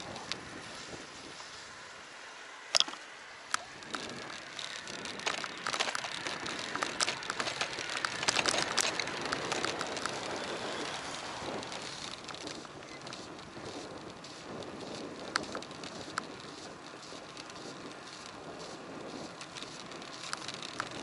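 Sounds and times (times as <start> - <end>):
bicycle clicks and rattles: 0.0 - 21.0
bicycle tyres hissing on road: 0.0 - 21.0.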